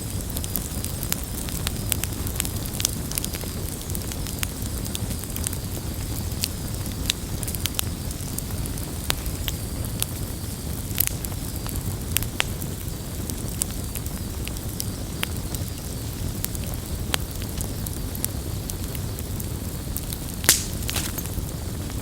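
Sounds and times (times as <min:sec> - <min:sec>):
campfire burning: 0:00.0 - 0:22.0
fire crackling and popping: 0:00.0 - 0:22.0.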